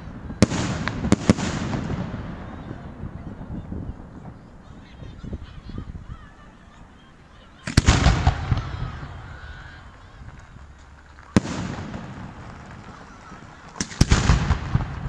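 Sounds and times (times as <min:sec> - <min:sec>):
firework bangs: 0:00.0 - 0:15.0
firework crackle: 0:00.0 - 0:15.0.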